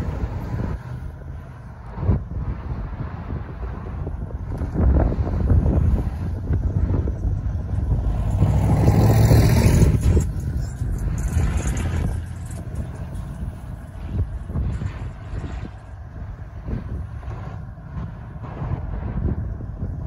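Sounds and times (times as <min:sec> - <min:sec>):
cars driving past: 0:00.0 - 0:20.0
wind buffeting microphone: 0:00.0 - 0:20.0.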